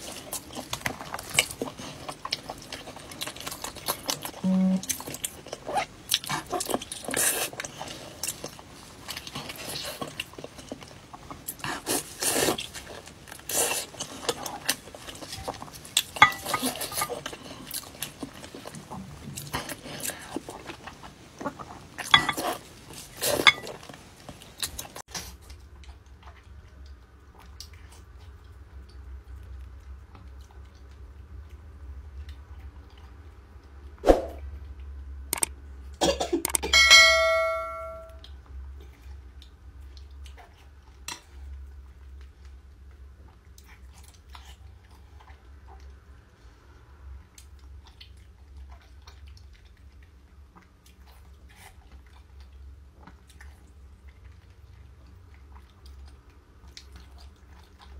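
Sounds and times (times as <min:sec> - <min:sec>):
chewing and lip smacking: 0:00.0 - 0:35.6, 0:38.2 - 0:57.9.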